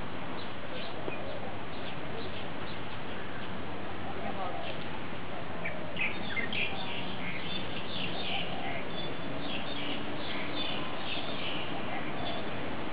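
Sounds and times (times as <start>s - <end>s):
steady background noise: 0.0s - 12.9s
birds chirping: 0.3s - 12.9s.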